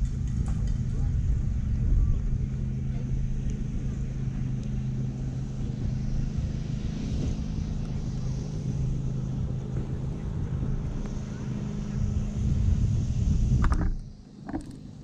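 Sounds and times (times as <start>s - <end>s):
low motor hum: 0.0s - 15.0s
wind rumble on microphone: 0.0s - 15.0s.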